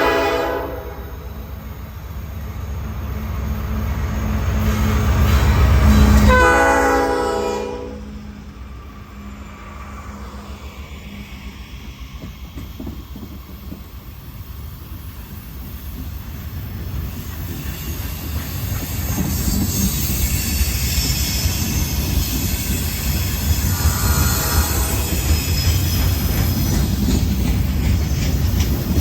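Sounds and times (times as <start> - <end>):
train rumbling on rails: 0.0 - 29.0
train wheel squeal: 3.5 - 7.4, 8.1 - 29.0.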